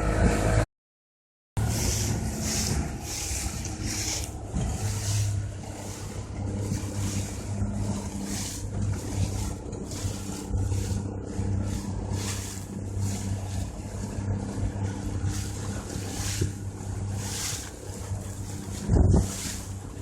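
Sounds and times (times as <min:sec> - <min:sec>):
motorboat engine running: 0:00.0 - 0:00.6, 0:01.6 - 0:20.0
wind on microphone: 0:00.0 - 0:00.6, 0:01.6 - 0:20.0
water rushing past hull: 0:01.6 - 0:20.0.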